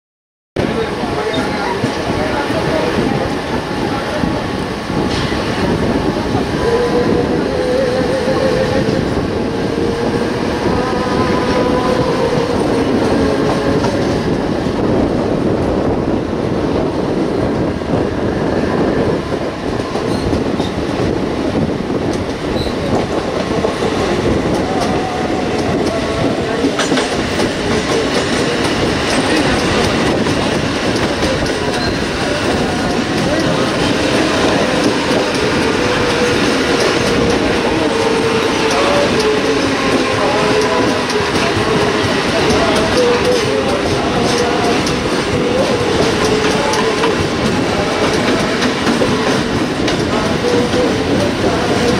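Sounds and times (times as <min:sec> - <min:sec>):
train wheels rumbling on rails: 0:00.6 - 0:51.9.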